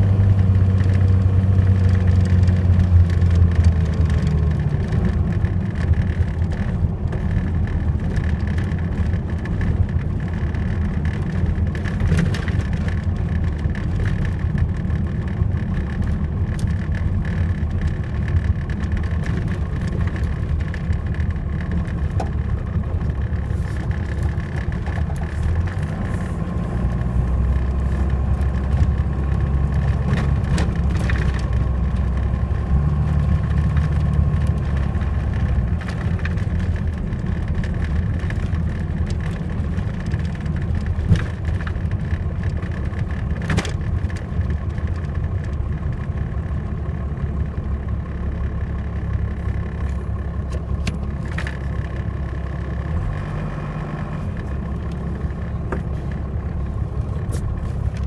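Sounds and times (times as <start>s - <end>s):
diesel engine drone in cab: 0.0s - 58.0s.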